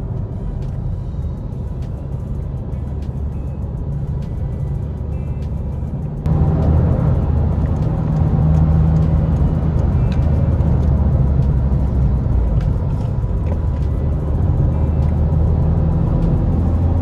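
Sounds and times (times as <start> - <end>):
diesel engine running: 0.0 - 17.0
tyre and road noise: 0.0 - 17.0.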